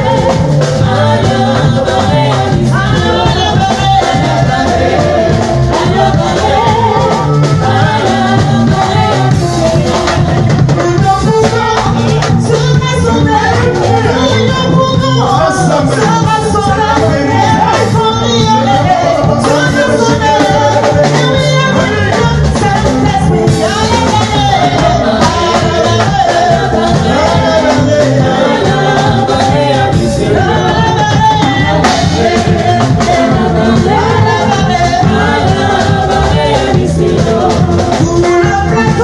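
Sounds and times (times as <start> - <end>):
instrumental music with steady beat: 0.0 - 39.0
woman singing into microphone: 0.0 - 39.0.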